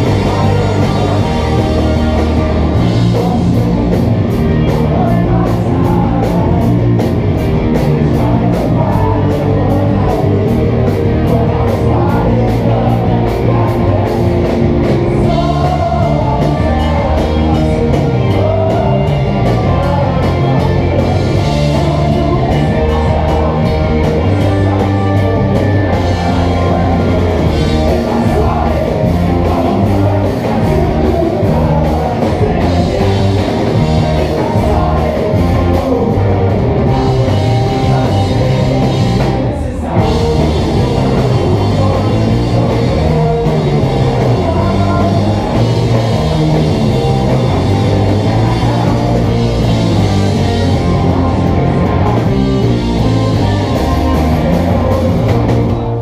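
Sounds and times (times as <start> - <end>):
live rock band playing: 0.0 - 56.0
person singing: 0.0 - 56.0.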